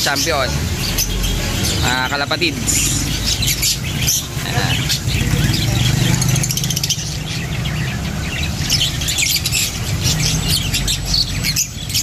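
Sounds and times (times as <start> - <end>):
small birds chirping: 0.0 - 12.0
truck engine rumbling: 0.0 - 12.0.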